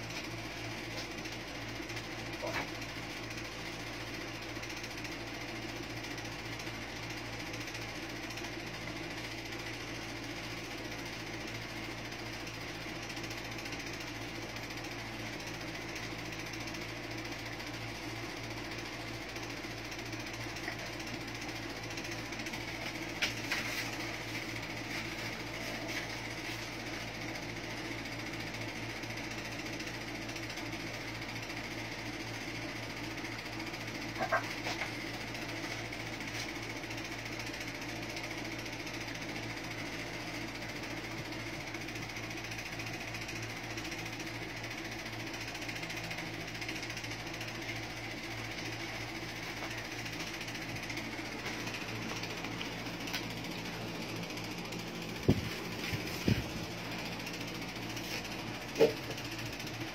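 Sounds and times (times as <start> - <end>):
mechanical hum with hiss: 0.0 - 59.9.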